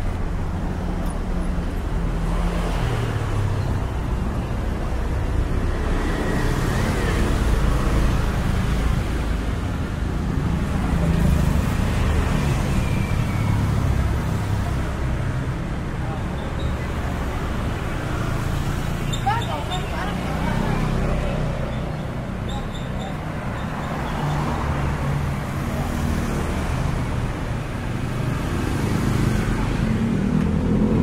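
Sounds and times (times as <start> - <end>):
scooters and cars passing: 0.0 - 31.0.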